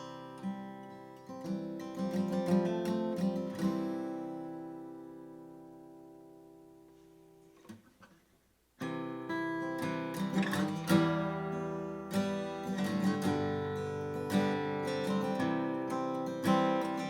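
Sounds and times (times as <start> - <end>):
acoustic guitar strumming: 0.0 - 8.2, 8.8 - 17.0.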